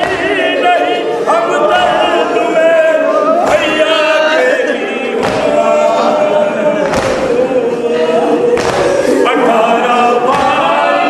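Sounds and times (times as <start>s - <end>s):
man singing lament: 0.0s - 11.0s
voices singing along: 0.0s - 11.0s.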